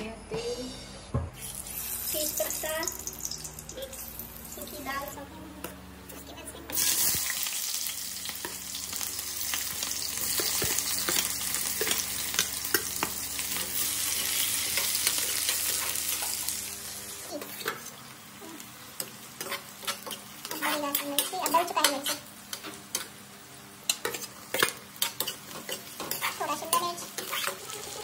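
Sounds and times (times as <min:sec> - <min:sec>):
onions sizzling in hot oil: 0:01.4 - 0:05.0, 0:06.7 - 0:28.0.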